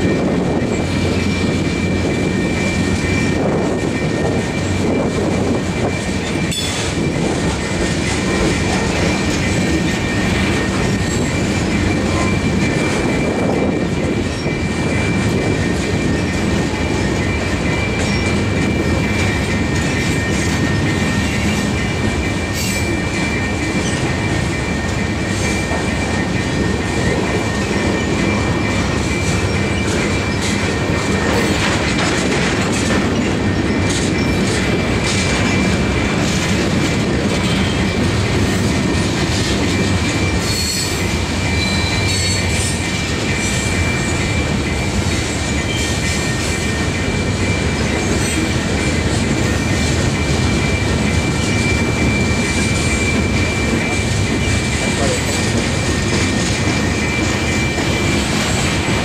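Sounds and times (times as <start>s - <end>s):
high wheel squeal: 0.0s - 31.9s, 37.4s - 58.8s
train wheels rumbling on rails: 0.0s - 59.0s
wheels clicking over rail joints: 0.0s - 59.0s.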